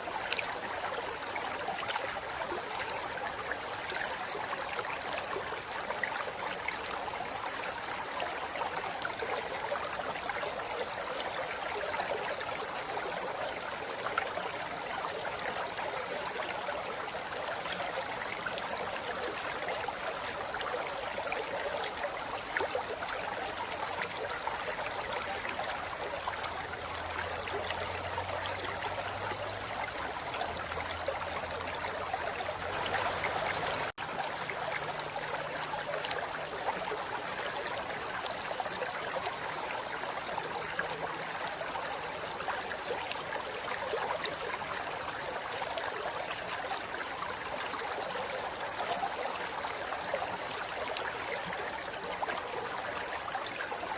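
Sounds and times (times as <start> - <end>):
river flowing over rocks: 0.0 - 53.9.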